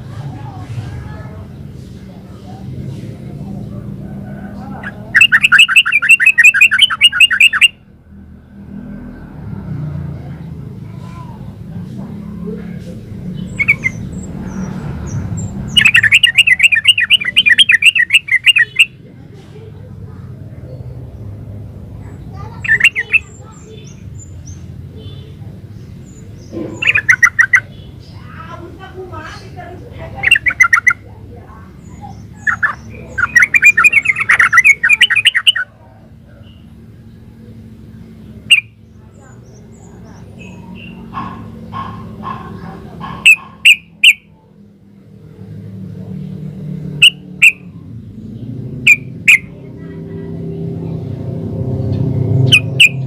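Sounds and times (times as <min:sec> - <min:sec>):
bulbul singing: 0:04.1 - 0:08.5, 0:12.2 - 0:19.7, 0:20.5 - 0:53.0.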